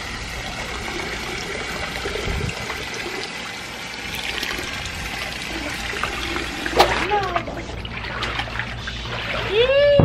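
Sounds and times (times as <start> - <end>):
water pouring into bath: 0.0 - 9.6.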